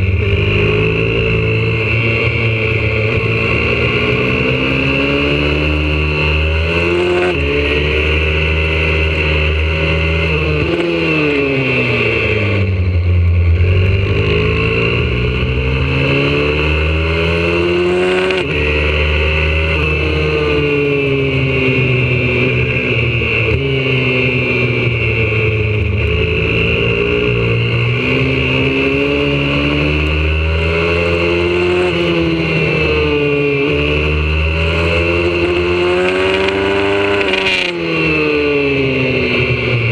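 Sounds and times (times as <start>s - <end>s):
motorbike engine accelerating and braking: 0.0s - 39.9s.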